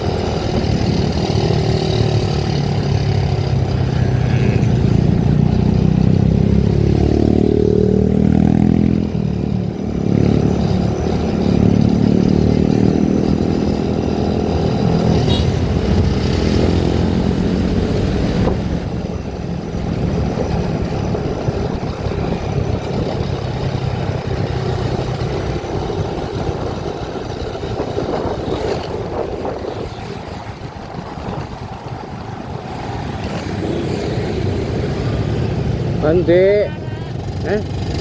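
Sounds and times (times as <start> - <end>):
vehicle driving on road: 0.0 - 38.0.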